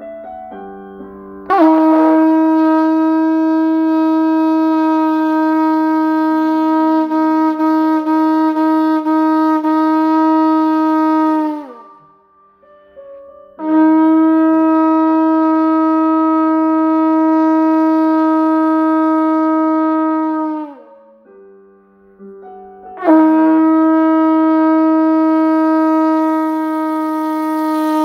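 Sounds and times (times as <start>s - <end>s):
shofar blast: 1.5s - 12.2s, 13.6s - 21.3s, 23.0s - 28.0s.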